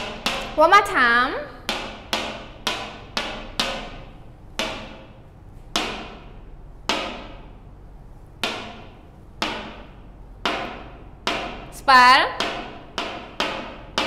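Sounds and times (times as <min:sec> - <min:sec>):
marker tapping on whiteboard: 0:00.0 - 0:00.6, 0:01.6 - 0:07.6, 0:08.4 - 0:14.0.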